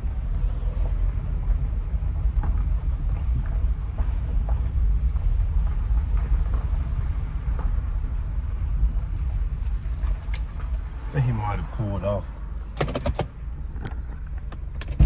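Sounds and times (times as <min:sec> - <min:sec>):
car engine rumble from inside: 0:00.0 - 0:15.0.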